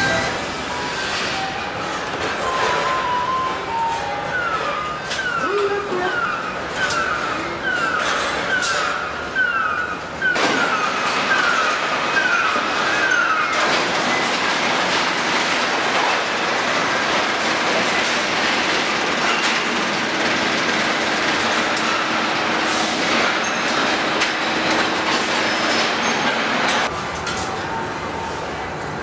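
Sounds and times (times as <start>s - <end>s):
tool and conveyor clanks: 0.0s - 27.6s
machinery clatter: 0.0s - 27.7s.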